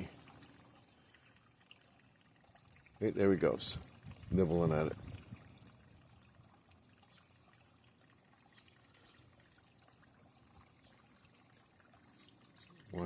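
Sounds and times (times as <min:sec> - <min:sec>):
faint trickling pond water: 0:00.0 - 0:13.0.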